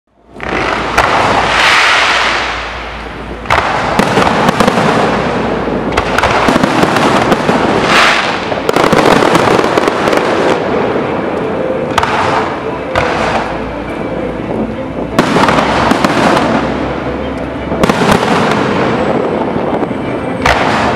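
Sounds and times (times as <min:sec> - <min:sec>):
fireworks crackling and popping: 0:00.2 - 0:17.0, 0:17.7 - 0:20.9.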